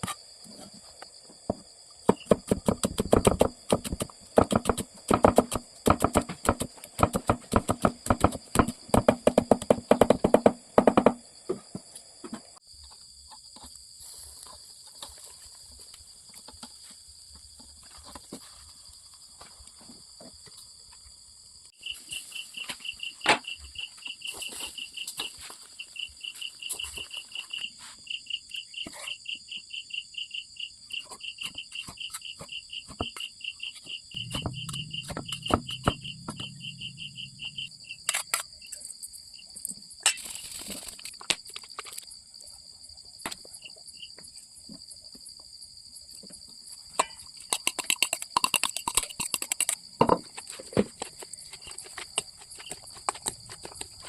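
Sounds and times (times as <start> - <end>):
insects chirping chorus: 0.0 - 54.0
rapid pulsing insect chirp: 0.0 - 54.0.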